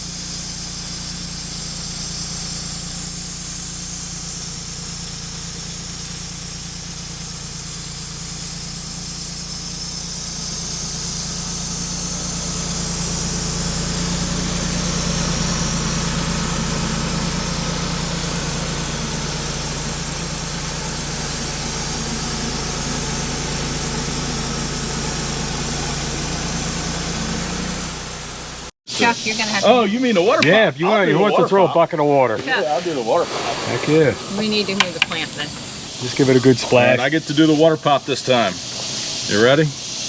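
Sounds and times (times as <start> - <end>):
broad hiss: 0.0 - 31.3, 32.3 - 40.0
sawmill engine running: 0.0 - 31.4, 32.0 - 40.0.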